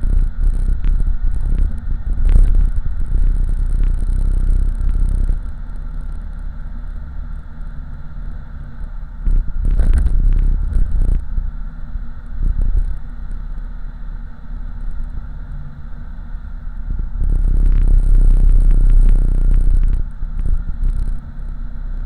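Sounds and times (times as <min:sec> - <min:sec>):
car engine low rumble: 0:00.0 - 0:22.0
road noise: 0:00.0 - 0:22.0.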